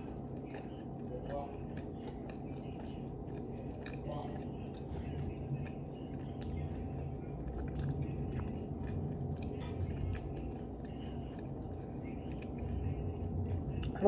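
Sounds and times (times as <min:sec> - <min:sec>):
low background hum: 0:00.0 - 0:14.0
person chewing sandwich: 0:00.0 - 0:14.0.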